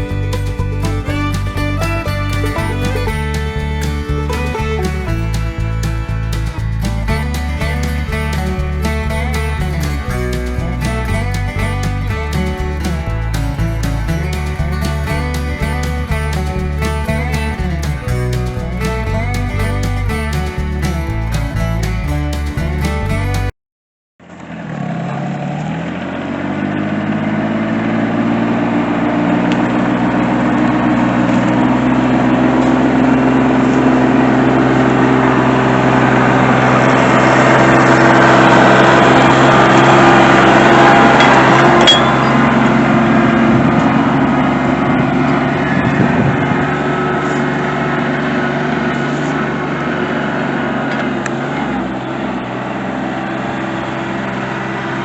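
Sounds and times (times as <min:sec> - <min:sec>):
tractor engine running: 0:00.0 - 0:23.5, 0:24.4 - 0:55.0.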